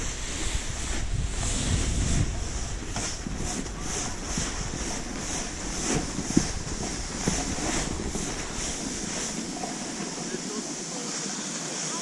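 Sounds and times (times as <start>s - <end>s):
snowboard edge scraping snow: 0.0s - 12.0s.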